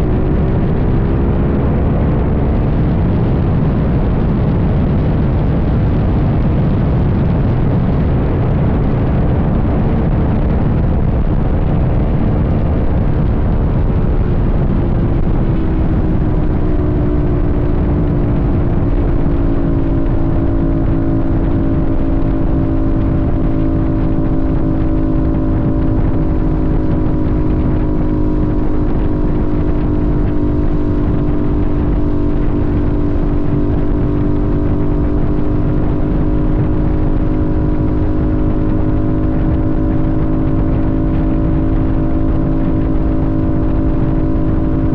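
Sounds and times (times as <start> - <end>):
motorcycle engine running: 0.0 - 44.9
wind rush: 0.0 - 44.9.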